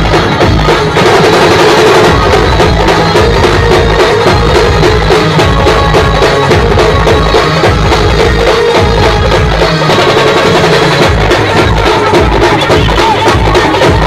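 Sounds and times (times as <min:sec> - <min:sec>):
heavy drums and percussion: 0:00.0 - 0:14.0
live band playing loud music: 0:00.0 - 0:14.0.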